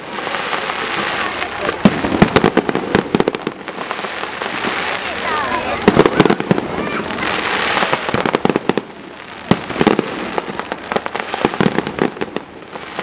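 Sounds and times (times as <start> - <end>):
firework hiss: 0.0 - 13.0
fireworks bangs and crackles: 0.0 - 13.0.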